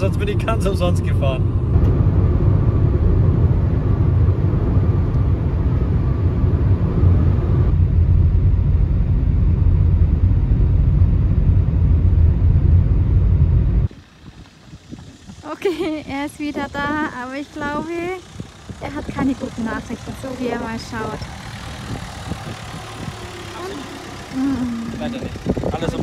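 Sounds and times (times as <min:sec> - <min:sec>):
road and engine rumble in car: 0:00.0 - 0:26.0.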